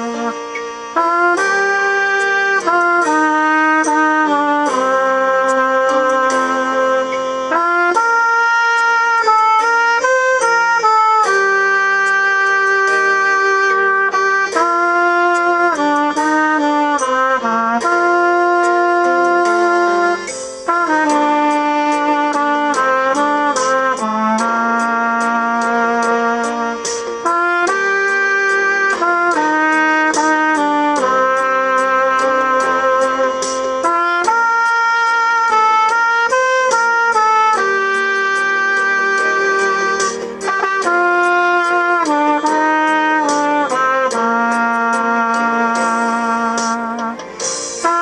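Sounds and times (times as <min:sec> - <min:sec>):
backing track with light beat: 0:00.0 - 0:48.0
solo saxophone melody: 0:00.0 - 0:48.0.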